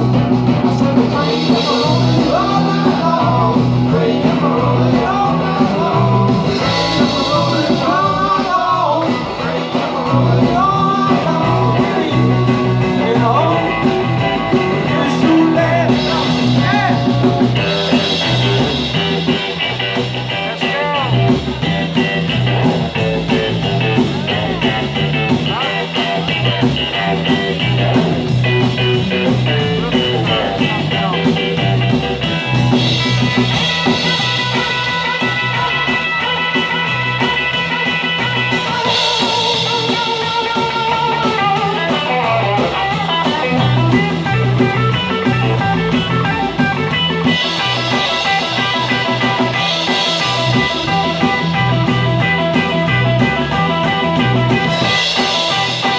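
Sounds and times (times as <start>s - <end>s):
bass guitar: 0.0s - 55.9s
drums: 0.0s - 55.9s
electric guitar: 0.0s - 55.9s
person singing: 0.5s - 19.5s, 23.2s - 55.9s.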